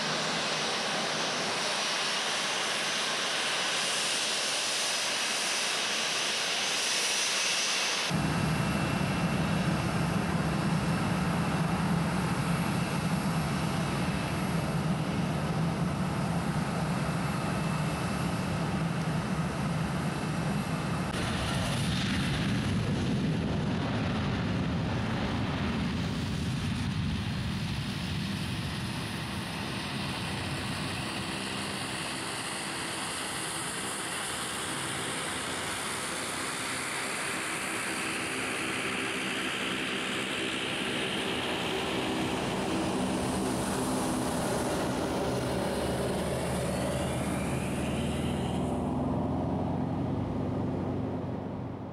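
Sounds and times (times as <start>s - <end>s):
jet engines at takeoff power: 0.0s - 51.9s
turboprop propellers droning: 0.0s - 51.9s.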